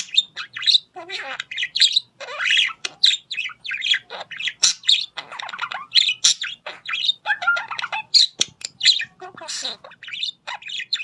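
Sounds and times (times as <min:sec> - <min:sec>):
parrot chirping and squawking: 0:00.0 - 0:11.0.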